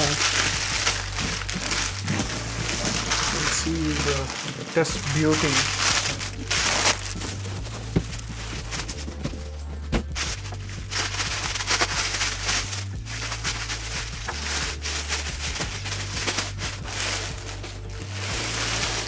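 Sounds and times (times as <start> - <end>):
plastic bag rustling and crinkling: 0.0 - 19.0
quiet background music: 0.0 - 19.0.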